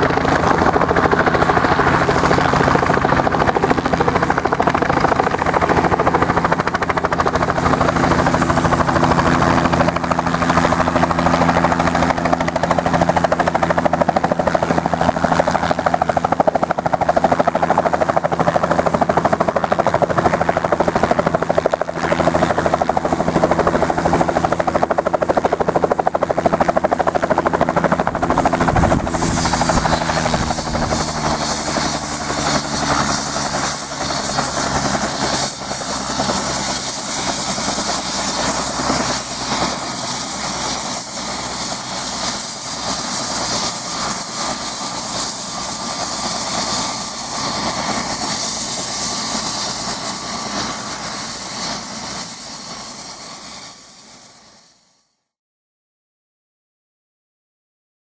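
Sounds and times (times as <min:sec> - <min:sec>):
helicopter hovering: 0:00.0 - 0:54.8.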